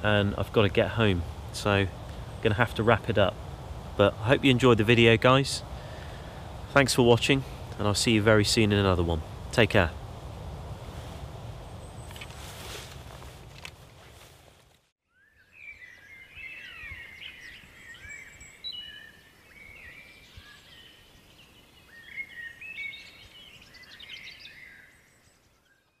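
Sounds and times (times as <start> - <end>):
songbirds singing: 0.0 - 10.4, 11.5 - 12.5, 15.0 - 26.0.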